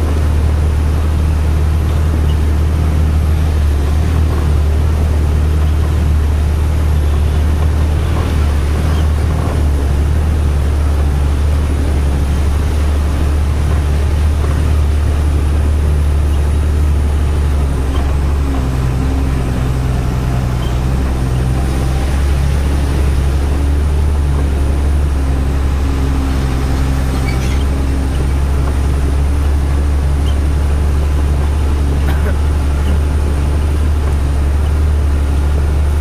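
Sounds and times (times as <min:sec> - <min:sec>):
road noise: 0:00.0 - 0:36.0
truck diesel engine droning: 0:00.0 - 0:36.0.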